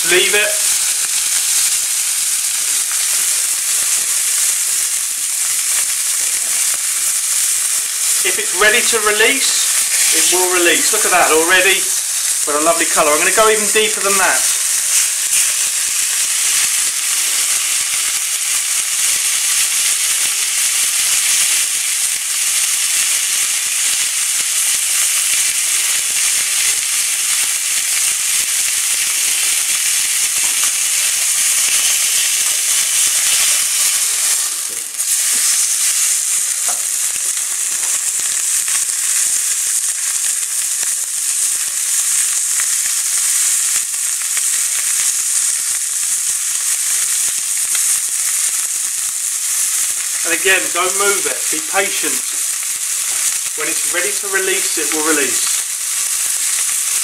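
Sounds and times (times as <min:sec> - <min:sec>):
meat sizzling in a pan: 0:00.0 - 0:57.0.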